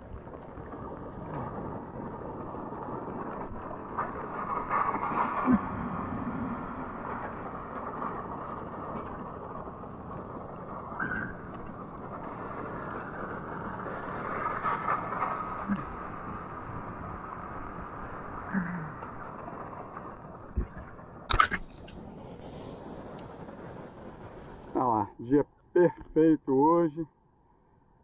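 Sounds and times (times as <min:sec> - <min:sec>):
surf water rushing and splashing: 0:00.0 - 0:25.1.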